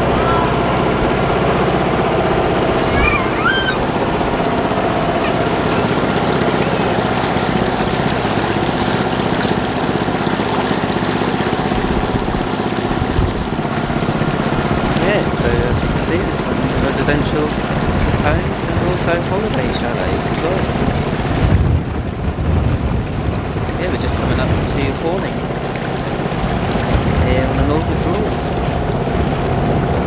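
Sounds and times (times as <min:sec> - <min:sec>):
boat motor running: 0:00.0 - 0:30.0
water rushing along hull: 0:00.0 - 0:30.0.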